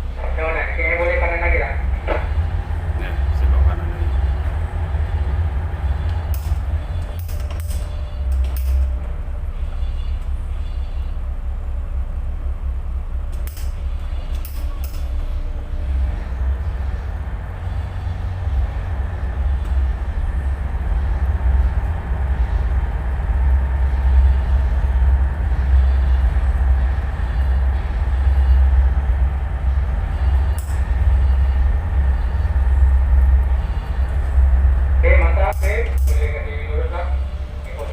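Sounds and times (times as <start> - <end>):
diesel engines rumbling: 0.0 - 37.9.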